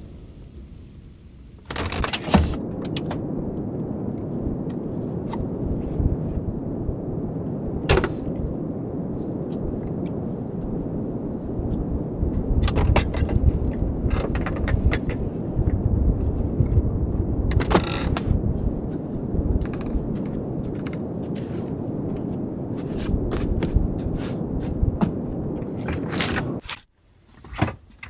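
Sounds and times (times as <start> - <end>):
blizzard wind buffeting microphone: 0.0 - 26.8.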